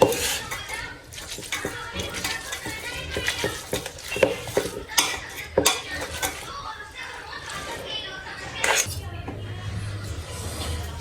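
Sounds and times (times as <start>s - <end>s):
utensils clinking on bowls: 0.0s - 11.0s.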